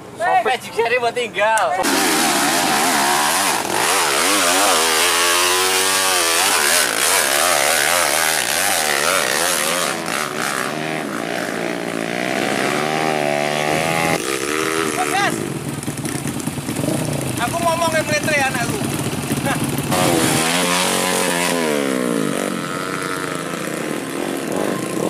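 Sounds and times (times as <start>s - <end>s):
dirt bike engine revving: 1.8s - 25.0s.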